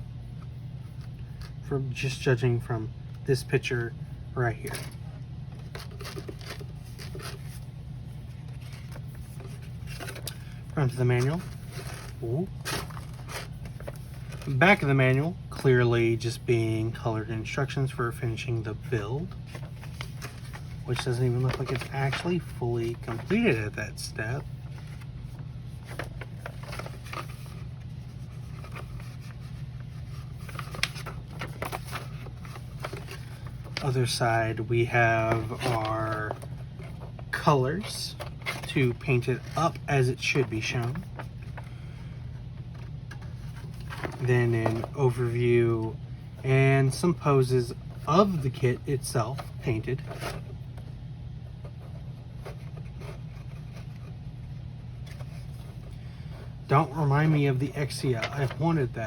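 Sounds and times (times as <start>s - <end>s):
steady low hum: 0.0s - 59.0s
paper rustling: 4.5s - 59.0s.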